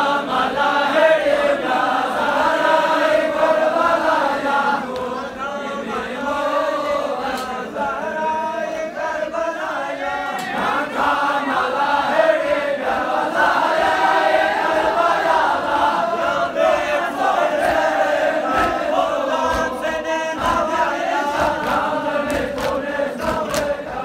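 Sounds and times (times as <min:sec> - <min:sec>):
crowd of men chanting: 0:00.0 - 0:24.0.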